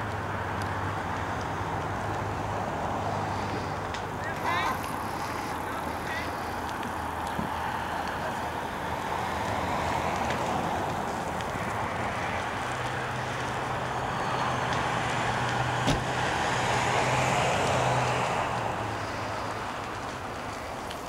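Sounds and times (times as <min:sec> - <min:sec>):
car passing: 0:00.0 - 0:21.0.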